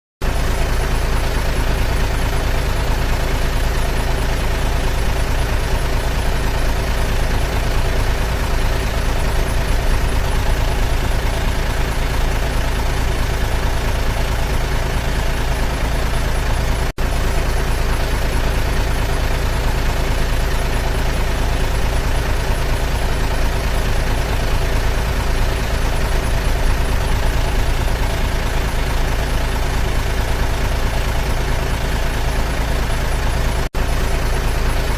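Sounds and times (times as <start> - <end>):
dump truck engine running: 0.2 - 34.9.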